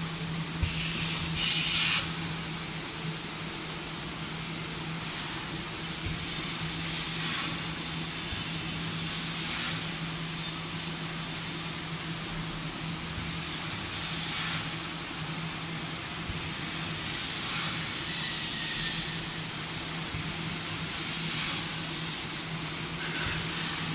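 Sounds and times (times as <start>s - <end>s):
machine hiss: 0.0s - 23.9s.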